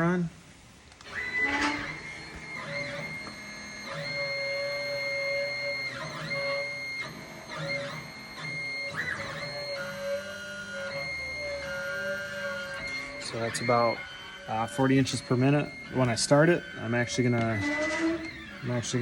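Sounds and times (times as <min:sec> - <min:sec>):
stepper motors whining: 0:00.9 - 0:19.0.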